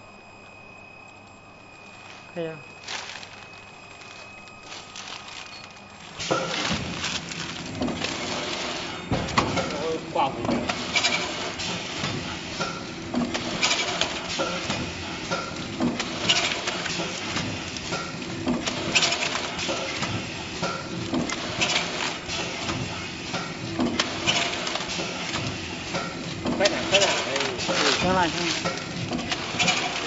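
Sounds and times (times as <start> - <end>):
packing machine clattering: 4.9 - 30.0.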